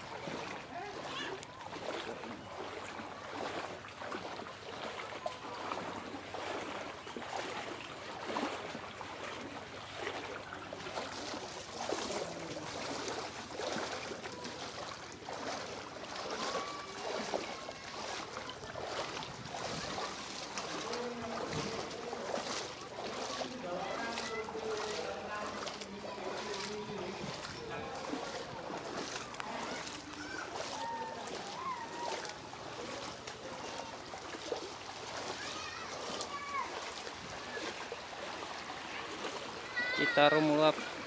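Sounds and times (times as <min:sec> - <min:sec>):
river water running: 0:00.0 - 0:41.0
small water splashes: 0:00.0 - 0:41.0.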